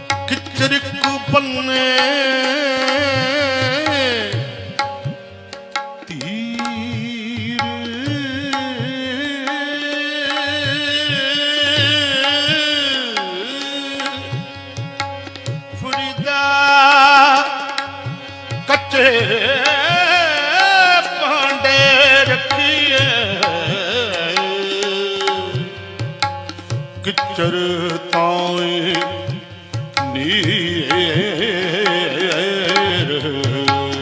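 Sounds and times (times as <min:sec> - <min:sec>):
harmonium melody: 0:00.0 - 0:34.0
tabla rhythm: 0:00.0 - 0:34.0.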